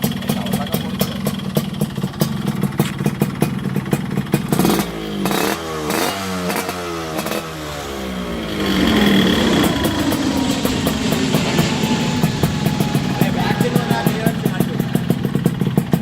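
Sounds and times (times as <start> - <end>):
engine revving: 0.0 - 16.0
motorcycle engine idling: 0.0 - 16.0.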